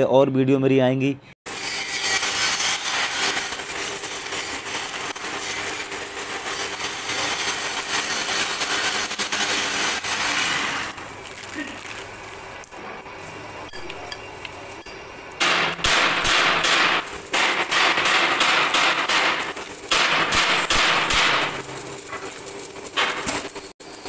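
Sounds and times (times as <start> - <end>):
loud harsh metalworking noise: 1.5 - 24.0.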